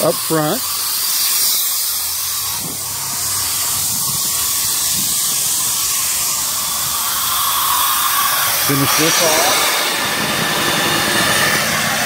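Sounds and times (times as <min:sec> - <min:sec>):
compressed air hissing from valves: 0:00.0 - 0:12.0.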